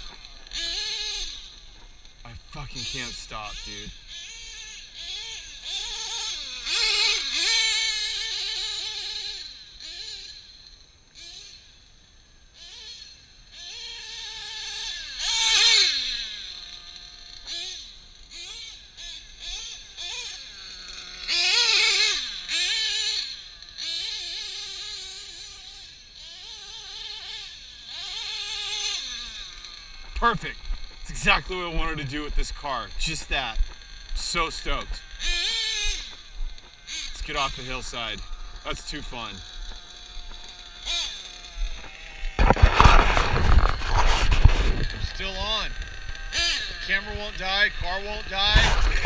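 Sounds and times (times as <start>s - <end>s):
model engine revving whine: 0.0s - 49.0s.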